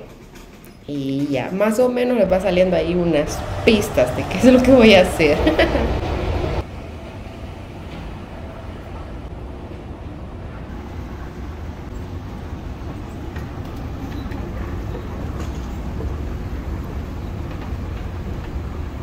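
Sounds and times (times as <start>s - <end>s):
moving walkway rumble: 0.0s - 19.0s.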